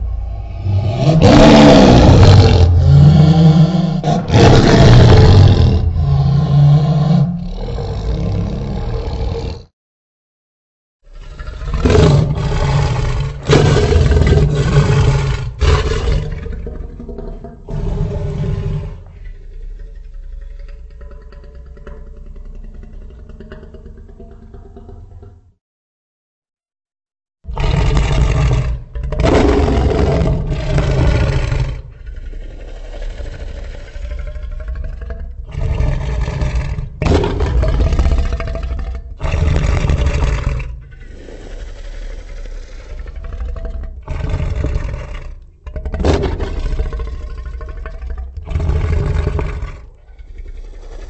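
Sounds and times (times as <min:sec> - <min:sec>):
deep dinosaur roars: 0:00.0 - 0:09.7, 0:11.0 - 0:25.4, 0:27.5 - 0:51.0.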